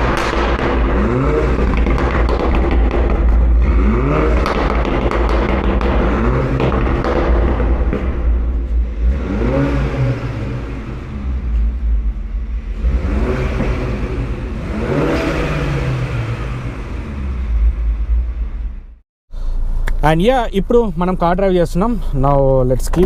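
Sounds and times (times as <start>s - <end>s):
car engine revving: 0.0s - 19.0s
heavy low rumble: 0.0s - 23.0s.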